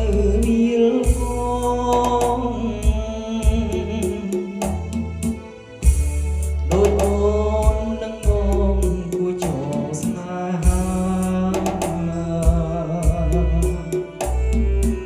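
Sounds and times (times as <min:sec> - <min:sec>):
song with heavy bass: 0:00.0 - 0:15.0.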